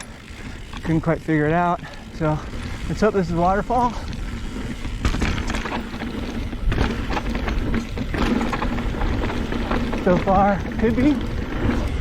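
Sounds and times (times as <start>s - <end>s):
bike clicks and knocks: 0.0s - 12.0s
bike tyres crunching on dirt trail: 0.0s - 12.0s.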